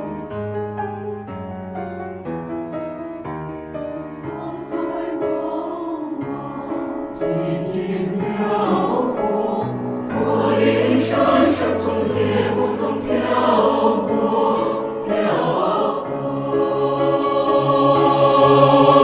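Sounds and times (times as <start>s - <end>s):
choir singing sustained chords: 3.3s - 19.0s.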